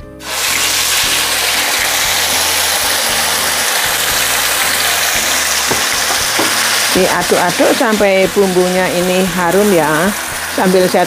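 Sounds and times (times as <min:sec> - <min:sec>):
paste sizzling in hot oil: 0:00.2 - 0:11.0.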